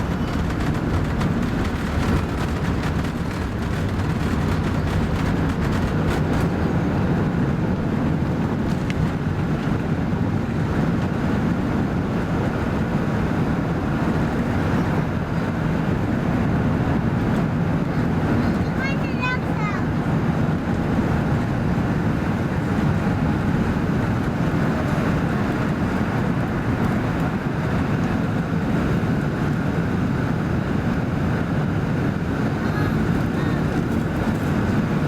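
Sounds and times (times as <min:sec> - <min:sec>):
aircraft cabin engine and airflow noise: 0:00.0 - 0:35.0.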